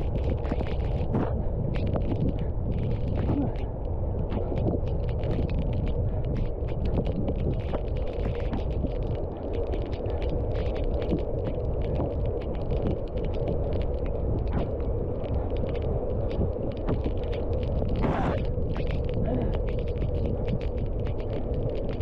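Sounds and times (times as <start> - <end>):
small clicks: 0.0 - 22.0
wind buffeting microphone: 0.0 - 22.0.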